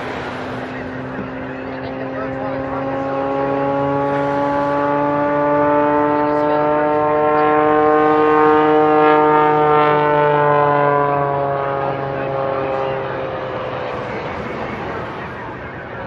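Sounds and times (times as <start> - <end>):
propeller plane flying past: 0.0 - 16.0.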